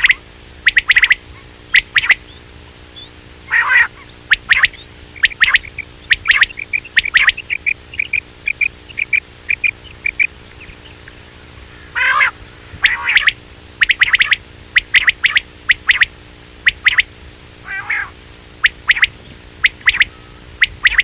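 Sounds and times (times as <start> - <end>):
faint steady hum: 0.0 - 21.0
quail calling: 0.0 - 21.0.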